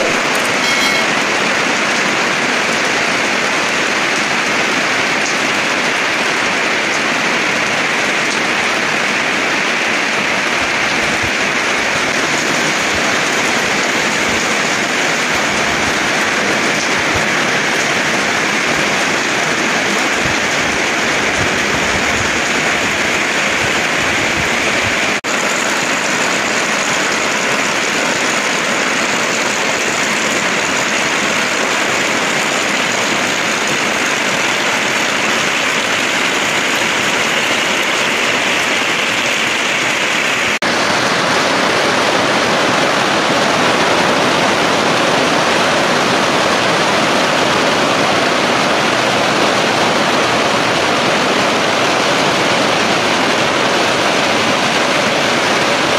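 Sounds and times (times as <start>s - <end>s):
heavy rain on foliage: 0.0s - 55.9s.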